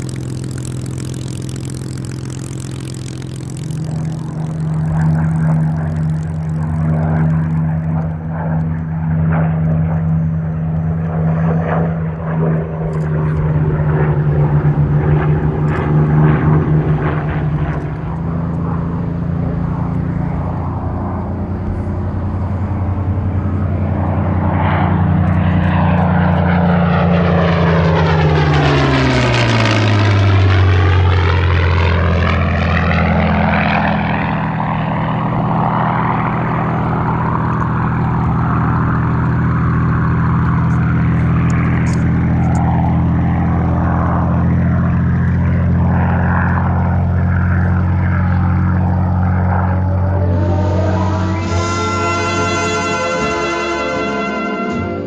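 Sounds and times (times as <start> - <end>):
aircraft engine running: 0.0 - 55.0
aircraft passing by: 0.0 - 55.0.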